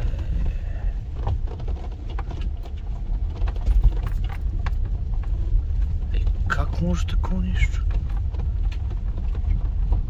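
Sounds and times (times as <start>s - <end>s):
engine and tyres rumbling: 0.0s - 10.0s.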